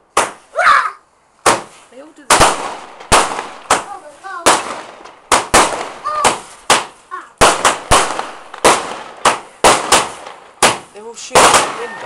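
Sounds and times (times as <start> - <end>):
firework bangs: 0.0 - 0.6, 1.4 - 12.0.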